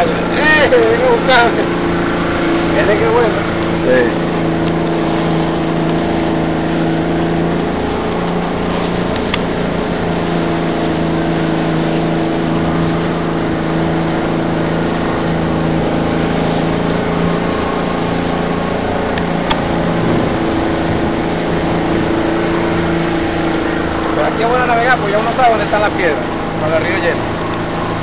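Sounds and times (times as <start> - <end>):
motorboat engine droning: 0.0 - 28.0
wind and water hiss: 0.0 - 28.0.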